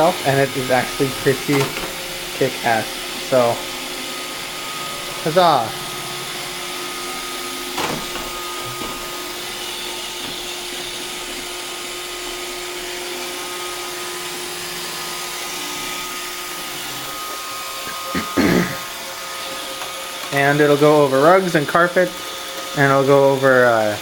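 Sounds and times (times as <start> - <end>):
robot vacuum whirring: 0.0 - 24.0.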